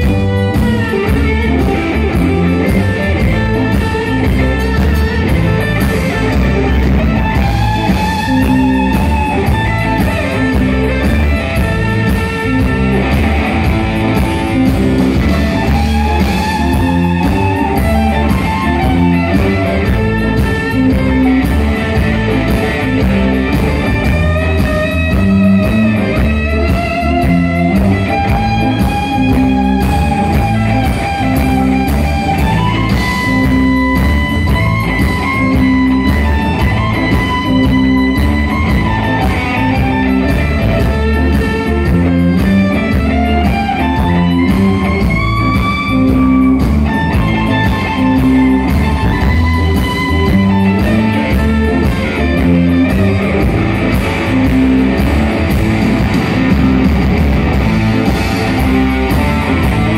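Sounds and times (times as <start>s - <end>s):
bass: 0.0s - 59.9s
drums: 0.0s - 59.9s
electric guitar bending notes: 0.0s - 59.9s.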